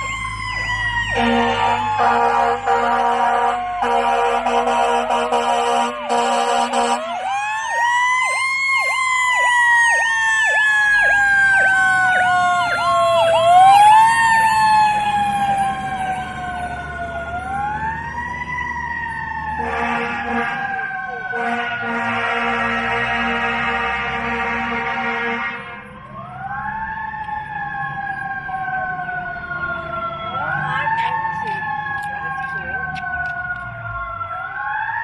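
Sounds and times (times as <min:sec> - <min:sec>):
warbling siren tone: 0:00.0 - 0:22.2, 0:25.3 - 0:35.0
fire engine siren wailing: 0:00.0 - 0:35.0.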